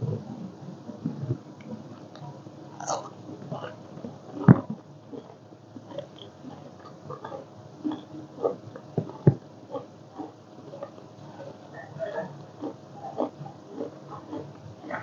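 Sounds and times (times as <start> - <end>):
close-up chewing and mouth sounds: 1.1 - 15.0.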